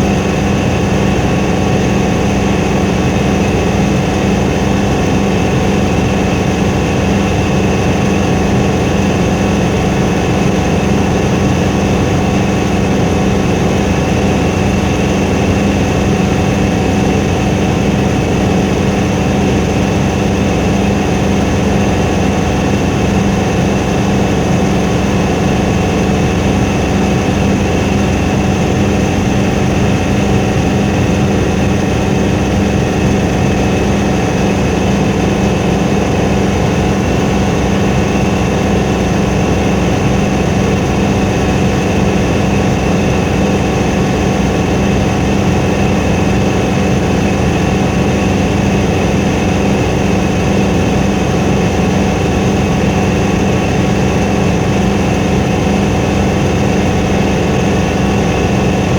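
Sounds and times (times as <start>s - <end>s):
helicopter drone: 0.0s - 58.9s.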